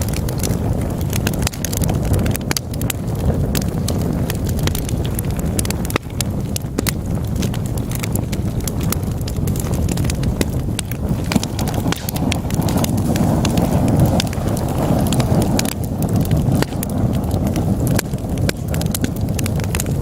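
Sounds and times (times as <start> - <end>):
crackles and pops of burning wood: 0.0 - 20.0
low roar of flames: 0.0 - 20.0.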